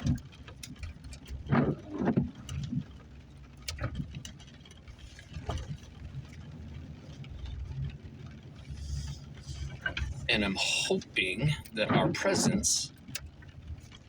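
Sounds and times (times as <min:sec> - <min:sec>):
vehicle engine and tyre rumble: 0:00.0 - 0:14.0.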